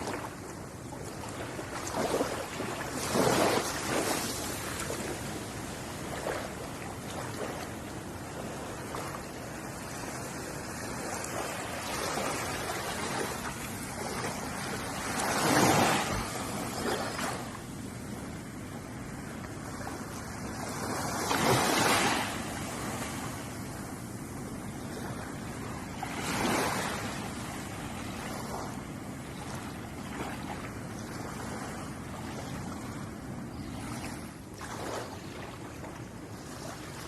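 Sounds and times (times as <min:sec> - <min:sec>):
ocean waves washing ashore: 0:00.0 - 0:37.0
waves breaking: 0:00.0 - 0:37.0.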